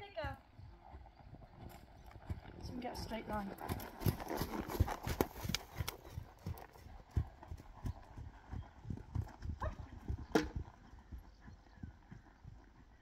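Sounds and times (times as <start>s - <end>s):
hooves thudding on sand: 0.0s - 13.0s.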